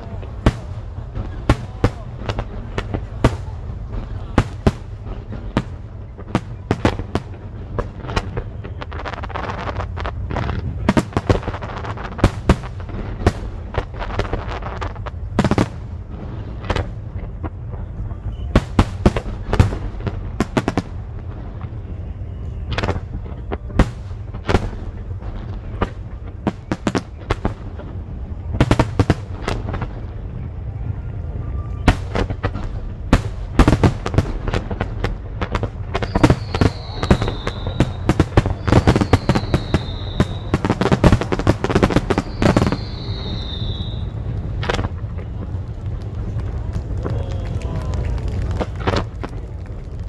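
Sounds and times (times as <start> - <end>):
fireworks bangs and crackles: 0.0 - 50.0
steady low rumble: 0.0 - 50.0.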